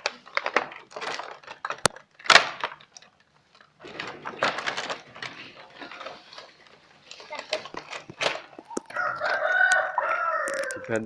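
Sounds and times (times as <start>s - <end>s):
packaging rustling: 0.0s - 10.8s
plastic items clicking and knocking: 0.0s - 11.0s.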